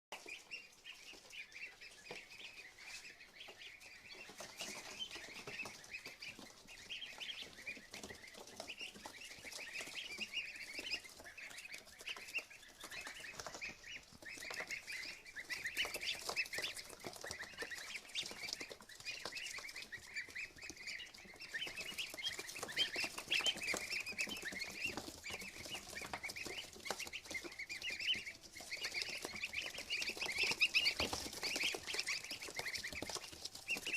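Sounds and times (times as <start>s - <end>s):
ducklings peeping: 0.1s - 33.9s.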